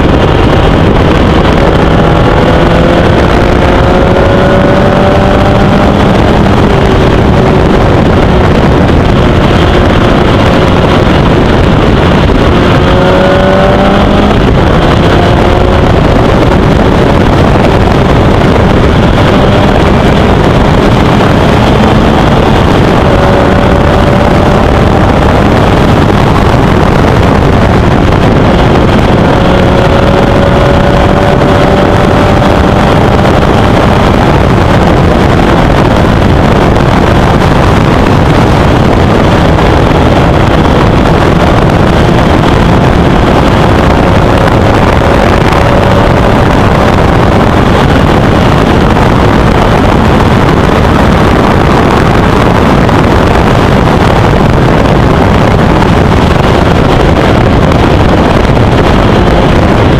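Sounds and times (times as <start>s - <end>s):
racing car engine: 0.0s - 59.9s
wind noise on microphone: 0.0s - 59.9s.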